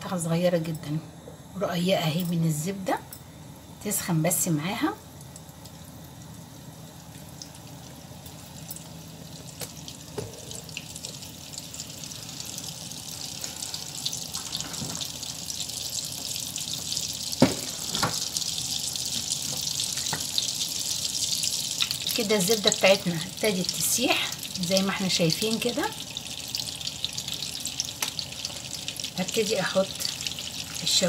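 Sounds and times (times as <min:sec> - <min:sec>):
butter sizzling in frying pan: 0:04.4 - 0:31.0.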